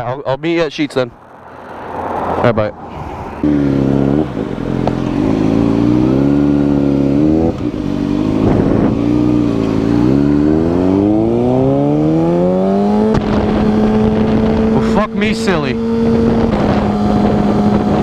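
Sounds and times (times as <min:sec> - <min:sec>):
motorcycle engine accelerating: 0:01.0 - 0:18.0.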